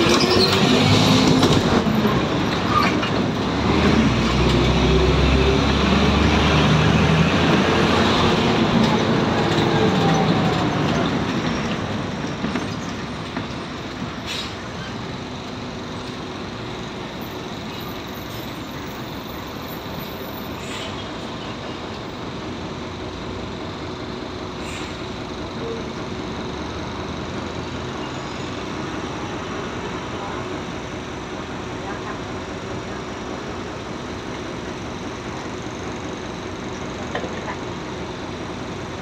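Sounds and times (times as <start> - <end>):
bus engine running: 0.0 - 39.0.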